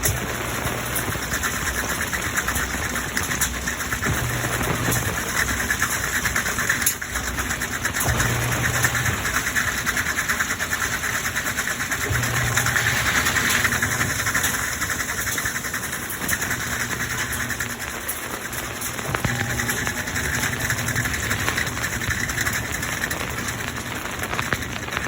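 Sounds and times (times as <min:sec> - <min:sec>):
washing machine spinning: 0:00.0 - 0:25.0.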